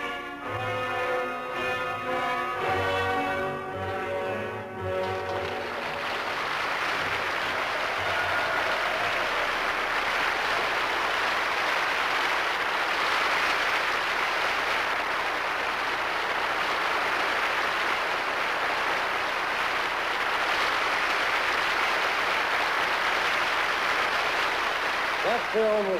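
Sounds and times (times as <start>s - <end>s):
audience applauding: 3.8s - 25.9s.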